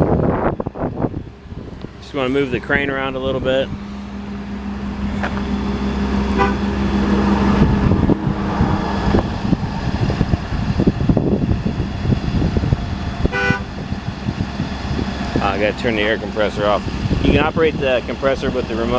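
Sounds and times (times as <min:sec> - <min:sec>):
hydraulic pumps humming: 0:00.0 - 0:18.9
air compressor running: 0:00.2 - 0:18.9.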